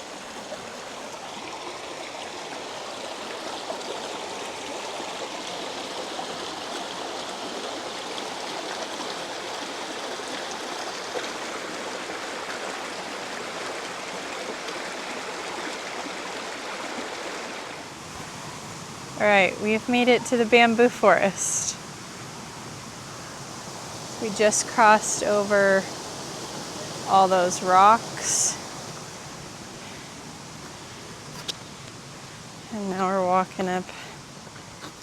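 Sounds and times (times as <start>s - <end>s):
brook babbling over stones: 0.0s - 35.0s.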